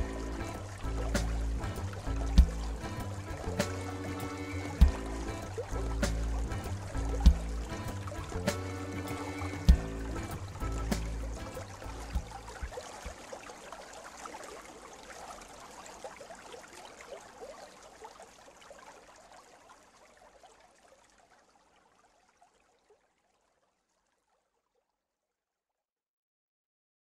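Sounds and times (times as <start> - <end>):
stream trickling and babbling: 0.0 - 25.7.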